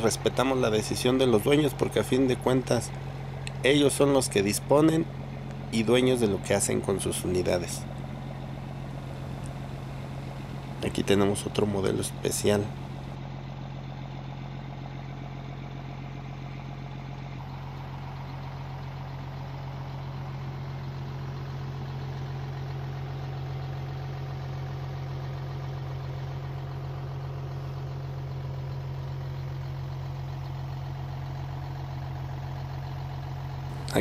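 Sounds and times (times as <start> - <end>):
bus engine idling: 0.0 - 34.0.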